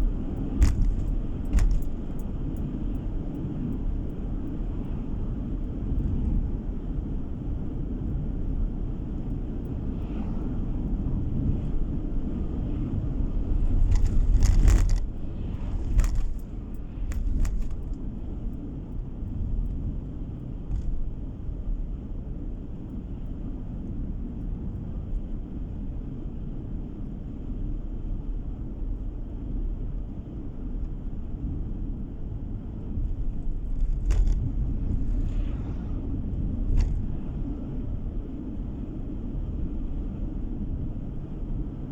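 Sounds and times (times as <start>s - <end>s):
car road rumble from inside: 0.0s - 41.9s.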